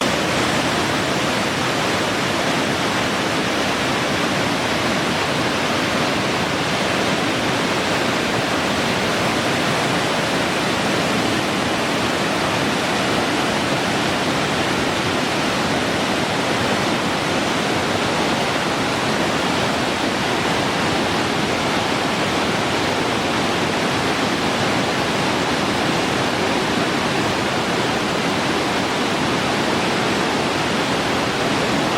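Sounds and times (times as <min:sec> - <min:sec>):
river water rushing: 0:00.0 - 0:31.9.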